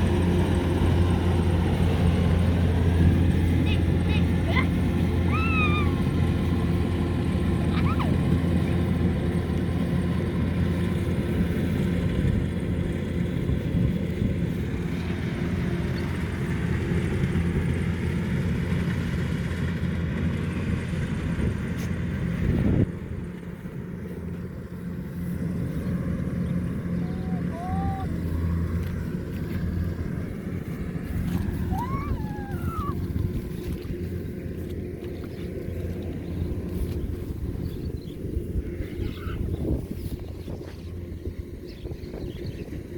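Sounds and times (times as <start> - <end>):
combine harvester engine humming: 0.0 - 42.9.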